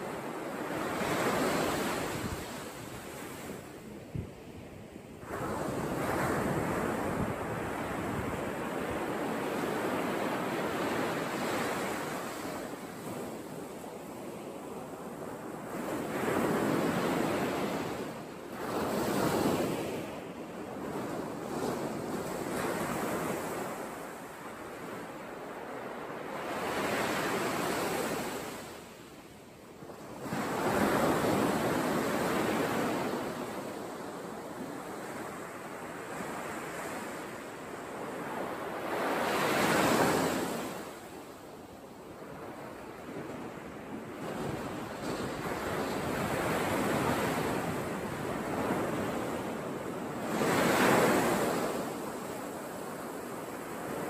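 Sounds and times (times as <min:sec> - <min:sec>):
waves breaking on beach: 0:00.0 - 0:03.8, 0:05.2 - 0:29.1, 0:29.8 - 0:54.0.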